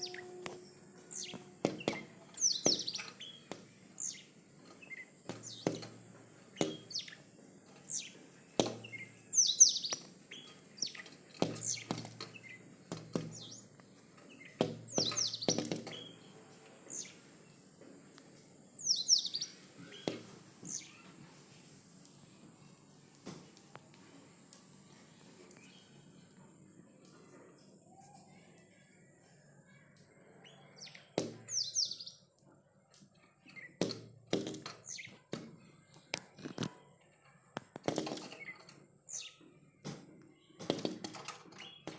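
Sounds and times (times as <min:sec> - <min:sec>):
small bird chirping: 0:00.0 - 0:21.5, 0:24.8 - 0:41.9.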